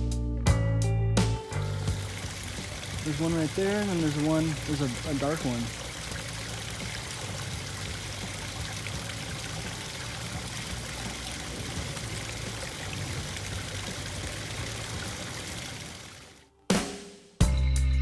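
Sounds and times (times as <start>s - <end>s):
water running and trickling: 1.4s - 16.4s.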